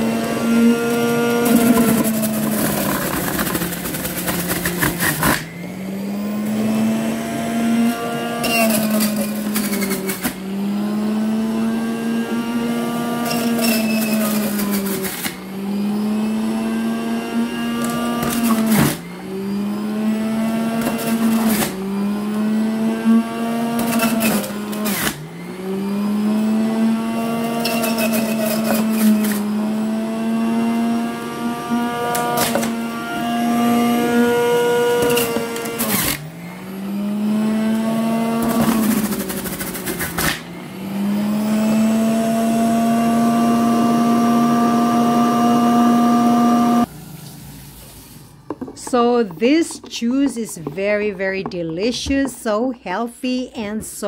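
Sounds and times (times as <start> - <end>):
juicer motor humming: 0.0 - 49.9.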